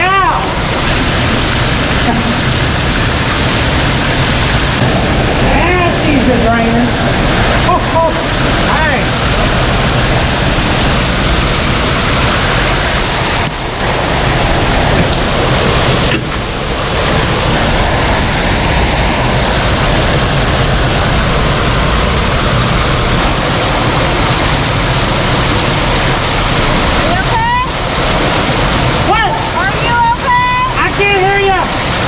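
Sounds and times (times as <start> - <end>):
water rushing through culvert: 0.0 - 32.0.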